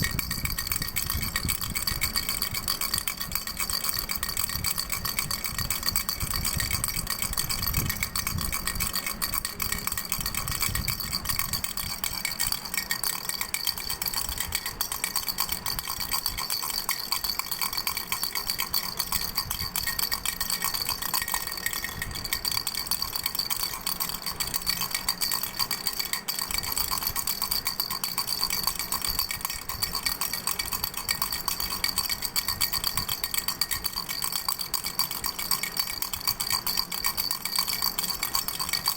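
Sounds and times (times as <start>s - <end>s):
baby rattle shaken: 0.0s - 38.9s.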